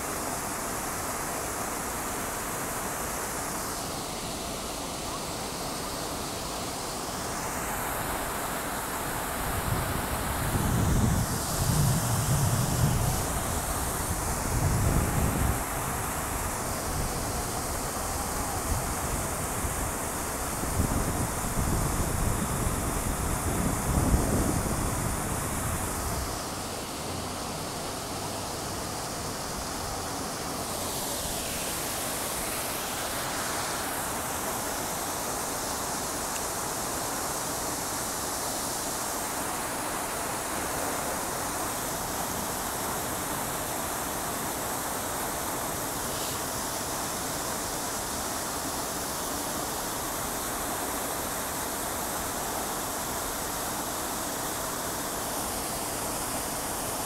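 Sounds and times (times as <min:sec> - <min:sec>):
fountain water splashing: 0:00.0 - 0:57.0.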